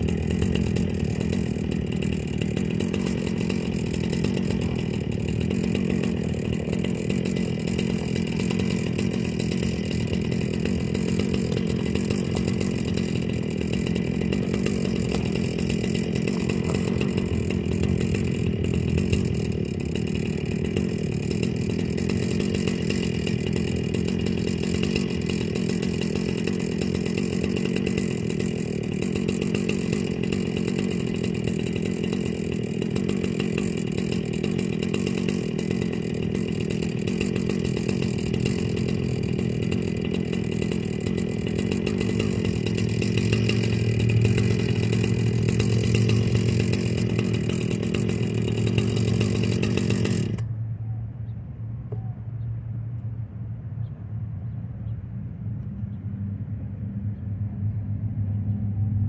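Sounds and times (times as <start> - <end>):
chainsaw engine running: 0.0 - 50.7.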